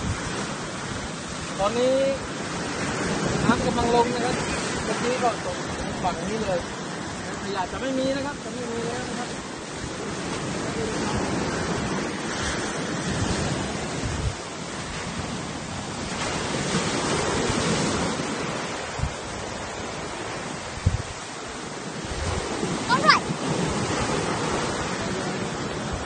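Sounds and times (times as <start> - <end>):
sea waves washing up beach: 0.0 - 26.0
wind rumble on microphone: 0.0 - 26.0.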